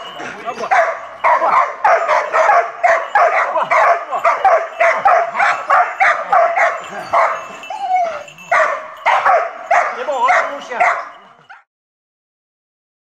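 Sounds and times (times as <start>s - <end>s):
dog barking rapidly: 0.6s - 11.7s.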